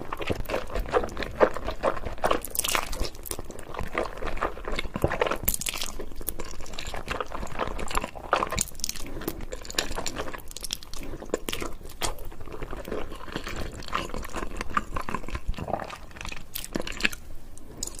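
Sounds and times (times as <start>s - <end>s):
person chewing noodles: 0.0s - 18.0s.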